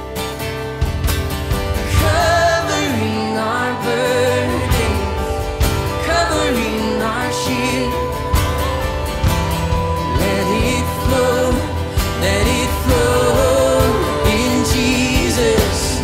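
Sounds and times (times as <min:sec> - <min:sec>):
acoustic guitar: 0:00.0 - 0:16.0
drum kit: 0:00.0 - 0:16.0
gliding melody over held chords: 0:00.0 - 0:16.0.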